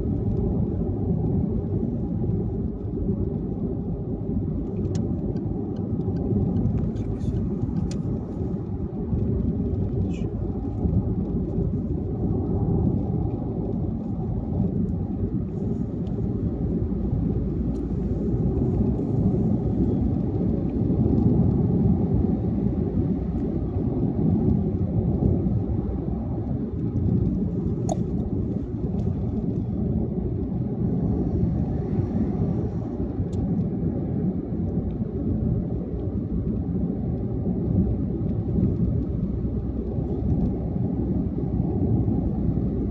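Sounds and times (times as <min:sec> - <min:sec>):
car cruising on highway: 0:00.0 - 0:42.9.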